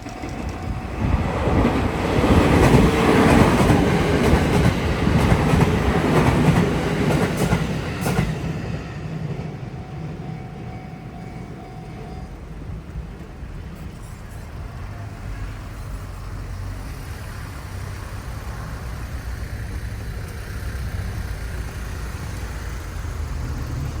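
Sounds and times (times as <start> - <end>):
rumble of passing vehicles: 0.0 - 24.0.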